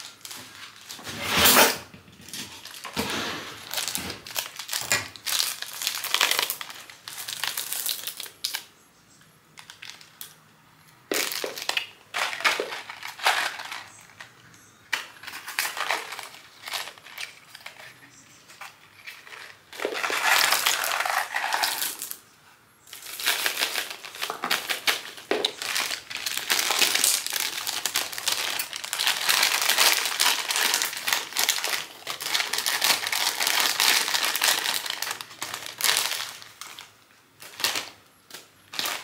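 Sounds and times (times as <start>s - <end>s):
plastic snack packets crinkling: 2.4s - 8.7s, 9.6s - 22.2s, 22.9s - 39.0s.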